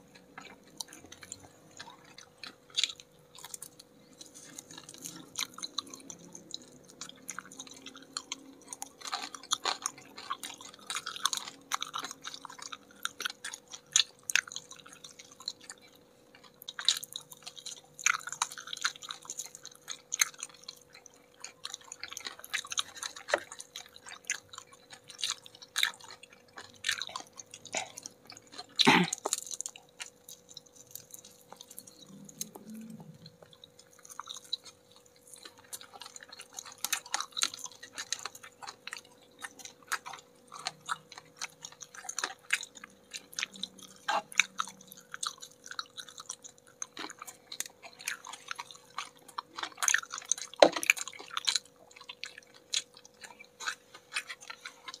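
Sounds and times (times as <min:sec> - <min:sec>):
crunching fried chicken: 0:00.0 - 0:55.0
faint steady hum: 0:00.0 - 0:55.0.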